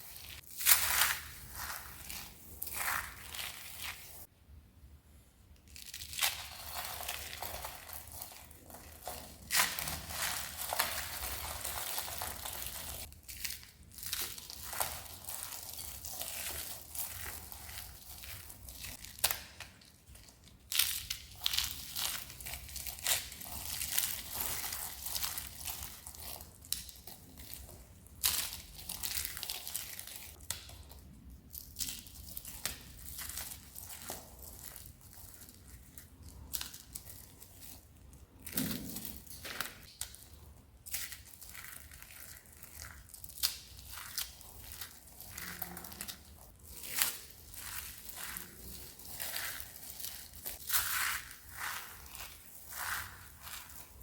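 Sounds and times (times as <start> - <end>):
soap crushed crackling: 5.7 - 54.0.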